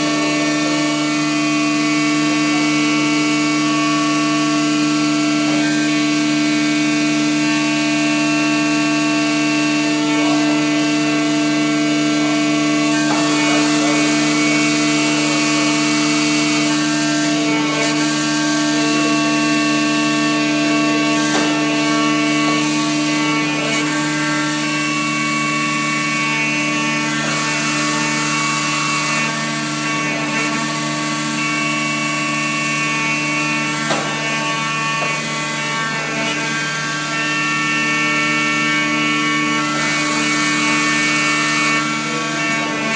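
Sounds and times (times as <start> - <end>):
machine whine: 0.0 - 42.9.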